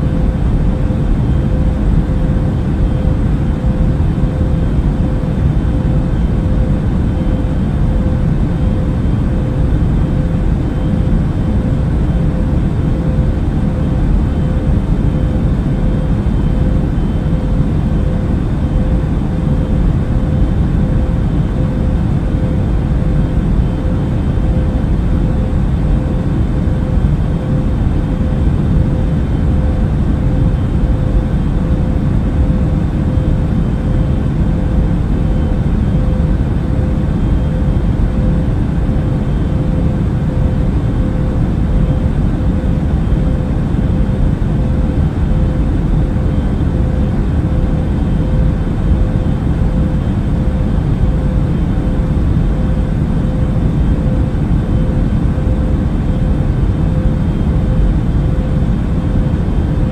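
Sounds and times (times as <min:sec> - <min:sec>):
airliner engine and air rumble: 0:00.0 - 0:59.9
faint steady hum: 0:00.0 - 0:59.9.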